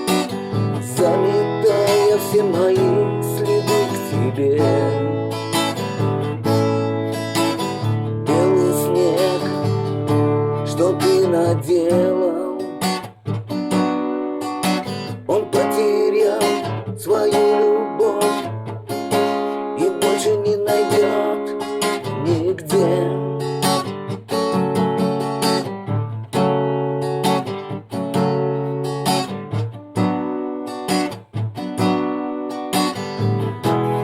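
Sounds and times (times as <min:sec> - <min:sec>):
strummed acoustic guitar chords: 0:00.0 - 0:34.0.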